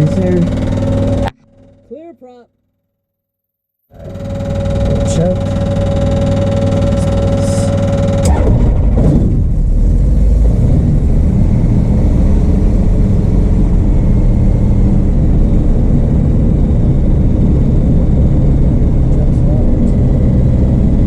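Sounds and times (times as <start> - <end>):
aircraft engine starting and idling: 0.0 - 1.8, 3.9 - 21.0.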